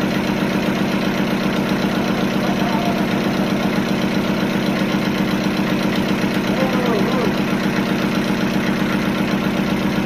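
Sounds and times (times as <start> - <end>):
sawmill engine running: 0.0 - 10.0.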